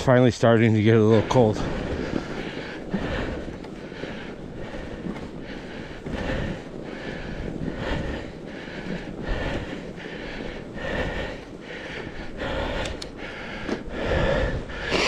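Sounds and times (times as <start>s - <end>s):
bike tyres rumbling on snow: 0.0s - 15.0s
person breathing hard: 1.1s - 15.0s.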